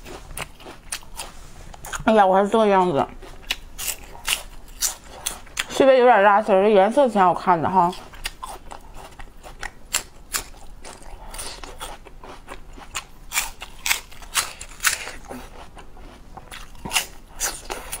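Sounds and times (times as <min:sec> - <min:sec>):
crunchy chewing of plant stalks: 0:00.0 - 0:02.2, 0:03.1 - 0:05.7, 0:07.7 - 0:18.0.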